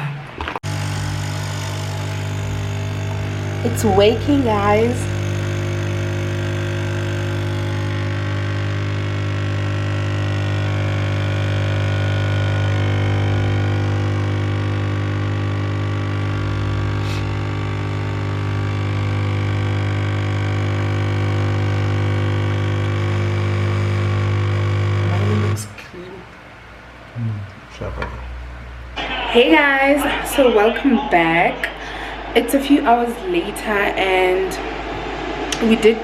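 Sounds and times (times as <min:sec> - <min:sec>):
coffee machine pump buzzing: 0:00.6 - 0:25.9, 0:28.0 - 0:36.0.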